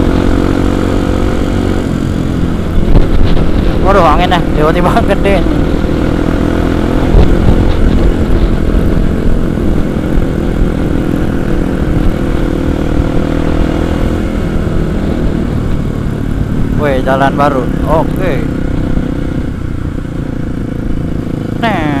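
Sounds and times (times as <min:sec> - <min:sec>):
wind buffeting microphone: 0:00.0 - 0:21.6
motorcycle engine cruising: 0:00.0 - 0:22.0.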